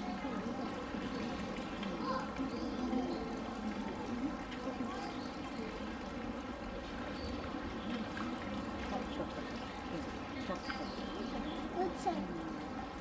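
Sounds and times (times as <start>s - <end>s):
indistinct chatter of visitors: 0.0s - 13.0s
running water: 0.0s - 13.0s.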